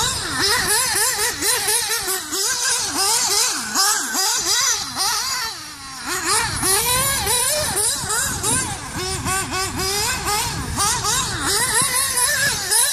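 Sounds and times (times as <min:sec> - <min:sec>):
rc buggy engine revving: 0:00.0 - 0:12.9.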